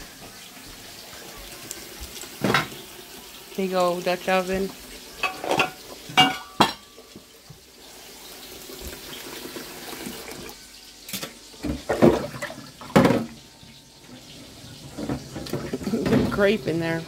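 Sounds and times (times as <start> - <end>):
tap water running: 0.0 - 17.0.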